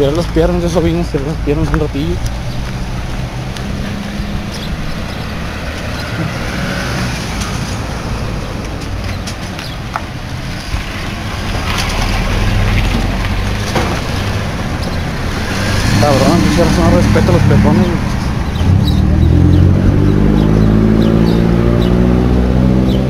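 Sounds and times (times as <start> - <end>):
cars passing: 0.0 - 23.0
vehicle engine: 0.0 - 23.0.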